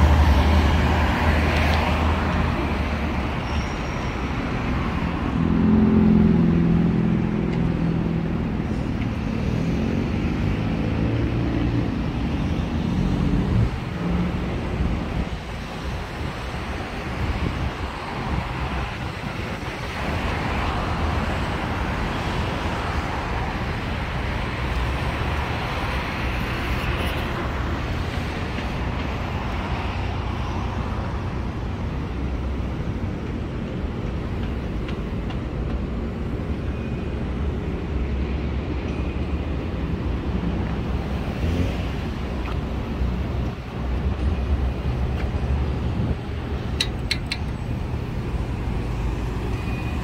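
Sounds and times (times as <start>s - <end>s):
road traffic noise: 0.0s - 50.0s.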